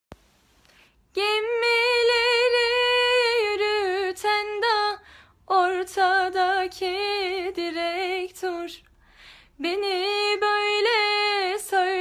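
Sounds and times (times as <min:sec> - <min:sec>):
woman singing: 0:01.1 - 0:08.9, 0:09.6 - 0:12.0.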